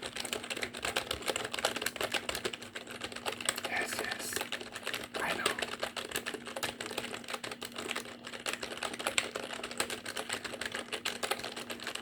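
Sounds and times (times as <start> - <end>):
rapid typing on keyboard: 0.0 - 12.0.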